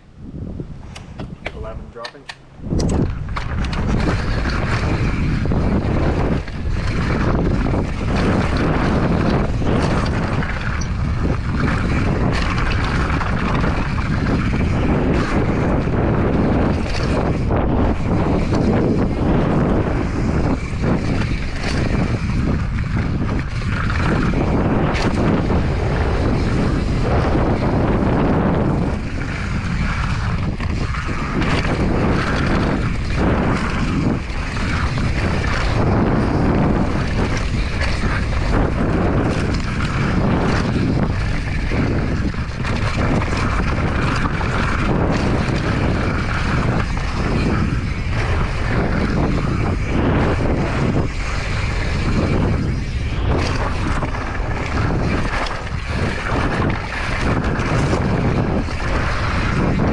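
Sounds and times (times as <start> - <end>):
wind buffeting microphone: 0.0 - 59.9
bike rattling over bumps: 0.4 - 59.9
bike tyres on dirt: 2.6 - 59.9.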